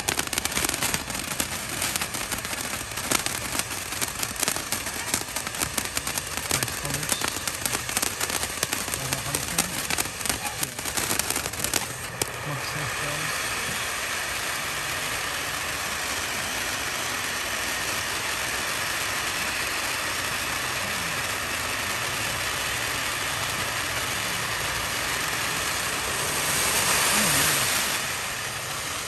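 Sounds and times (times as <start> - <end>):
firework fountain hissing: 0.0 - 29.0.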